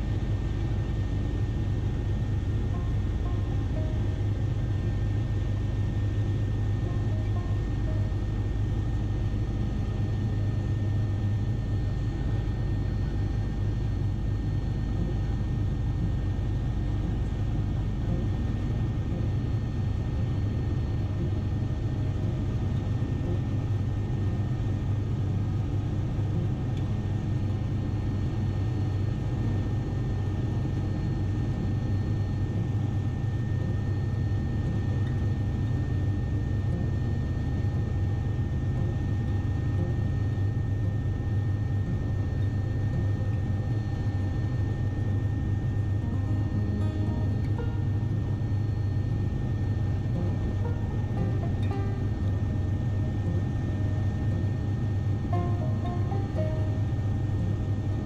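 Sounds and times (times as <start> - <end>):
helicopter engine high whine: 0.0 - 58.0
helicopter low drone: 0.0 - 58.0.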